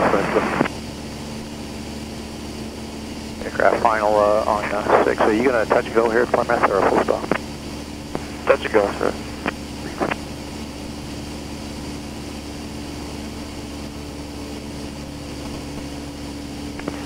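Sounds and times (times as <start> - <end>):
propeller aircraft engine drone: 0.0 - 17.0.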